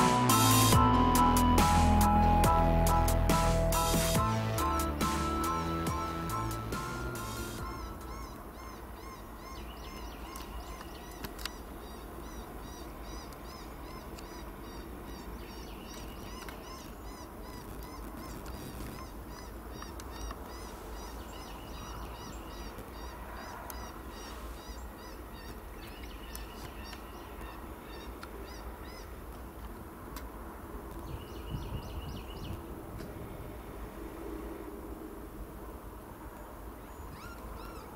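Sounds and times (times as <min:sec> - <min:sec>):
birds chirping: 0:00.0 - 0:33.6, 0:36.2 - 0:37.9.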